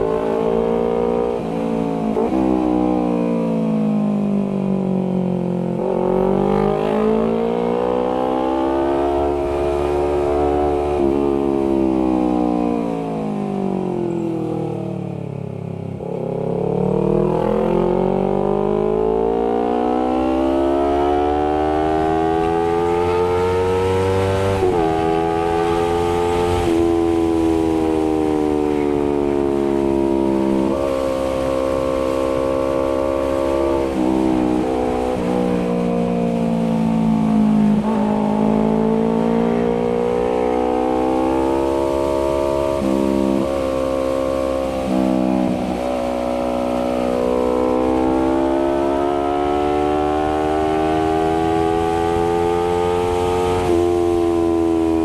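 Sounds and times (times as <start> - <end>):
motorcycle engine revving: 0.0 - 14.2, 15.2 - 55.0.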